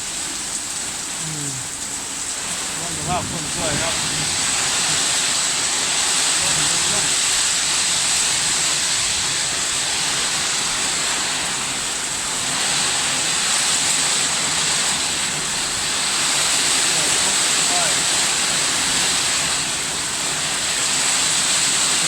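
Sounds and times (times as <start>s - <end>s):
storm rushing noise: 2.5s - 22.0s.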